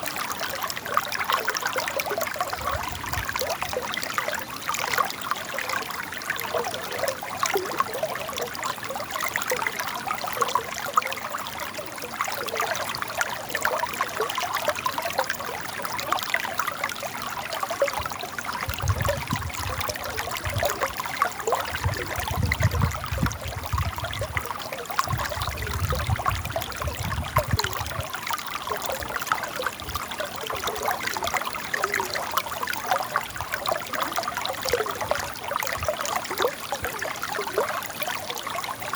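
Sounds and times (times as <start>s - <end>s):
river water trickling: 0.0s - 38.9s.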